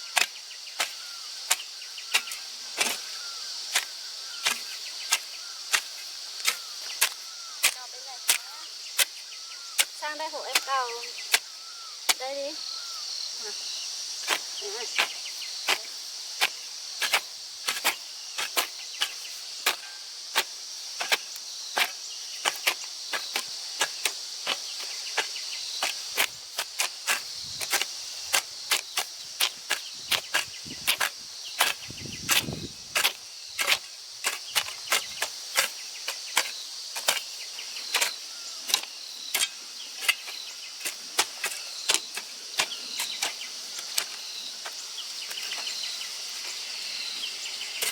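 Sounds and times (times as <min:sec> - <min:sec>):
digging tools striking soil: 0:00.0 - 0:12.4, 0:14.2 - 0:45.9, 0:47.7 - 0:47.9
high drone of insects: 0:00.0 - 0:47.9.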